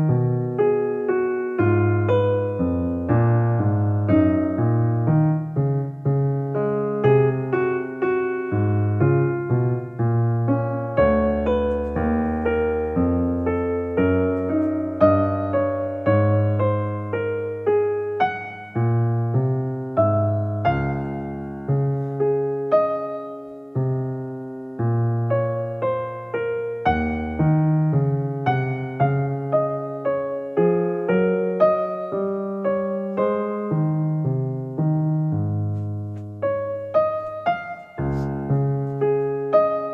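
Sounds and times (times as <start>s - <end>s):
gentle solo piano melody: 0.0s - 39.9s.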